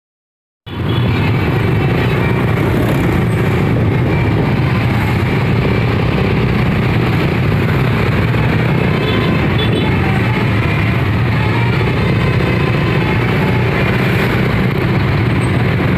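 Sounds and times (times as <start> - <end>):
bus engine rumbling: 0.7 - 15.9.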